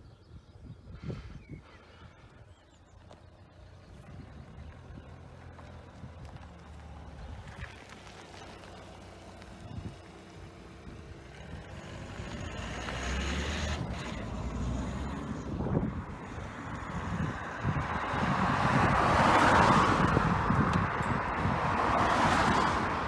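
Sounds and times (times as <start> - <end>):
wind buffeting microphone: 0.0 - 3.0, 3.6 - 23.0.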